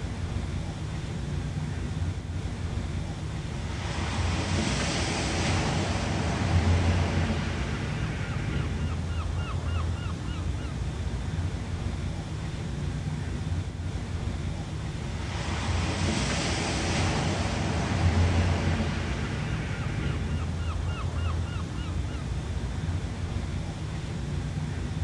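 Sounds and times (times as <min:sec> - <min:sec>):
ocean surf rumbling: 0:00.0 - 0:25.0.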